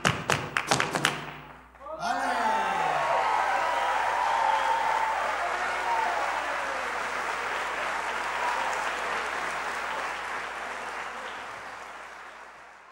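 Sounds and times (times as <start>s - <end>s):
audience applauding: 2.3s - 12.9s.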